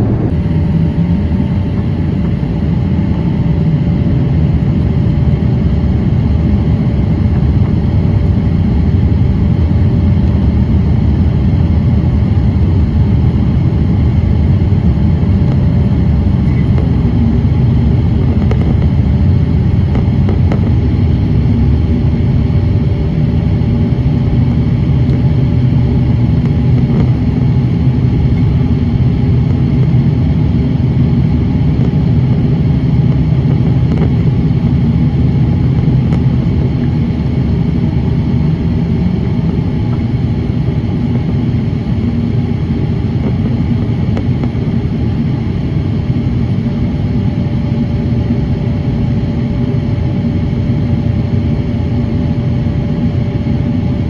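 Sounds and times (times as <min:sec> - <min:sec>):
faint steady hums: 0:00.0 - 0:54.0
jet engine roar in cabin: 0:00.0 - 0:54.0.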